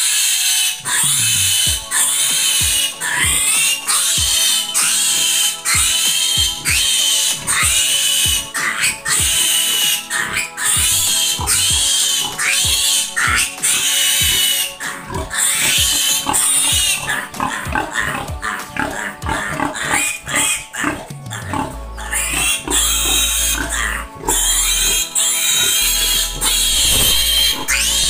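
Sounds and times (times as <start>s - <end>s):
background music with steady beat: 0.0s - 28.0s
piglet squealing: 0.0s - 28.0s.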